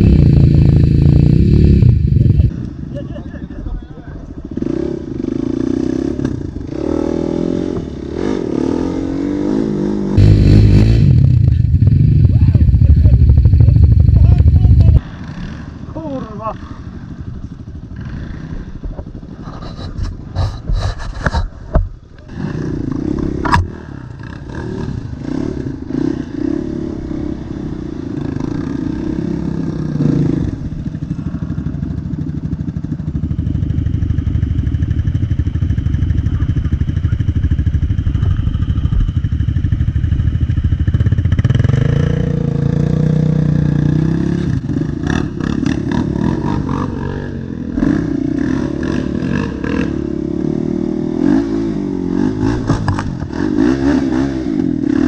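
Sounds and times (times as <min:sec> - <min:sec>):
quad bike engine revving: 0:00.0 - 0:03.0, 0:04.3 - 0:17.2, 0:22.2 - 0:55.0.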